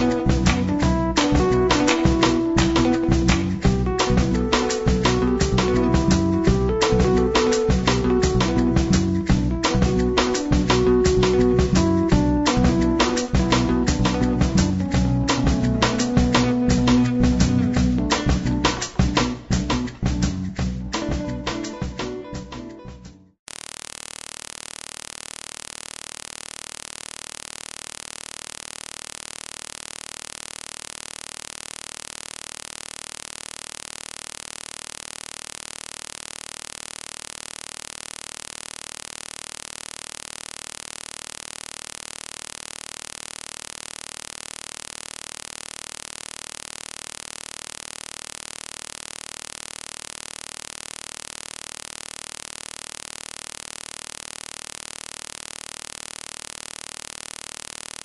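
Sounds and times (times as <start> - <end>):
static hiss: 0.0 - 19.5, 23.5 - 58.0.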